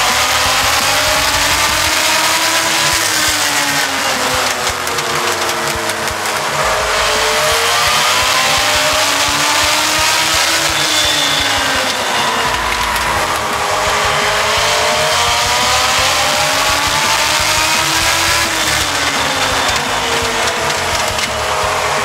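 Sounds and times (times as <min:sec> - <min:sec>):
race car engine: 0:00.0 - 0:22.0.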